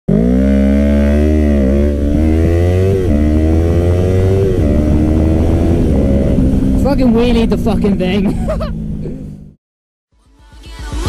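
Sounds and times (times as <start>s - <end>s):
motorcycle accelerating with upshifts: 0.1s - 9.6s.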